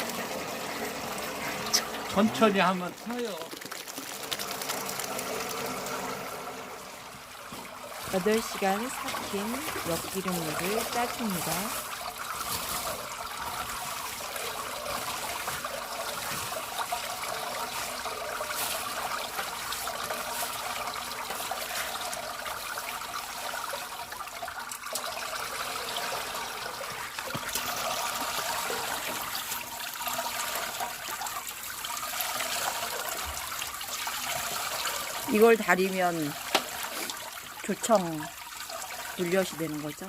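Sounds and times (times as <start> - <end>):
liquid trickling and splashing: 0.0 - 40.0.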